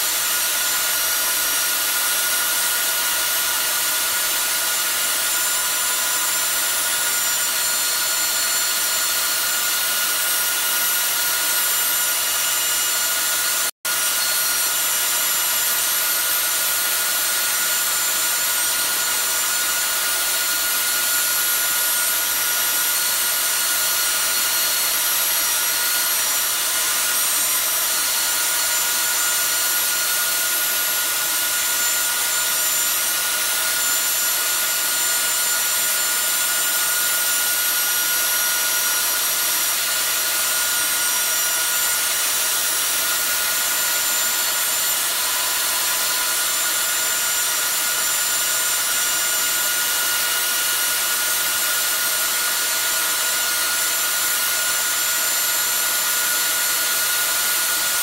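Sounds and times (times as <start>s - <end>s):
router cutting plywood: 0.0s - 58.0s.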